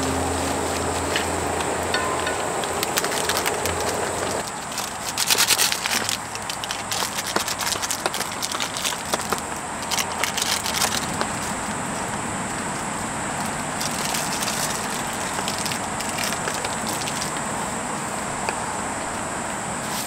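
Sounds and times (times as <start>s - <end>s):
steady hiss: 0.0s - 20.0s
wood fire crackling and popping: 0.8s - 19.2s.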